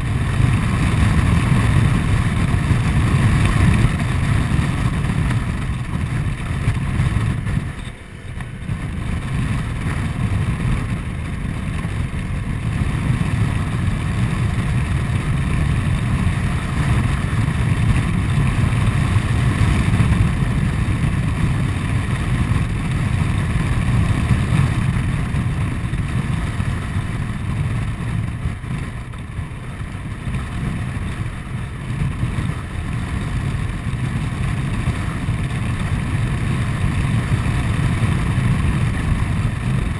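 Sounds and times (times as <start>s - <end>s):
scooter engine running: 0.0s - 39.9s
wind noise: 0.0s - 39.9s.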